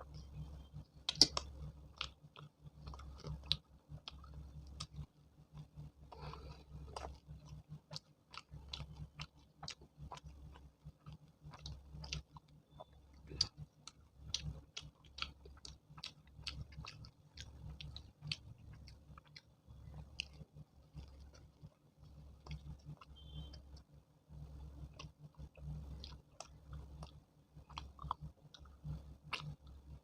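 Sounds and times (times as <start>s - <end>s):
person chewing food: 0.0s - 30.0s
mouth clicks and smacks: 0.1s - 23.9s, 24.8s - 30.0s.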